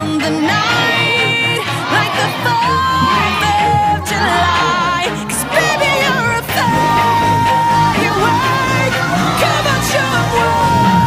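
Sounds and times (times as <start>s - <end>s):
gliding melody line: 0.0s - 11.0s
steady low bass: 0.0s - 11.0s.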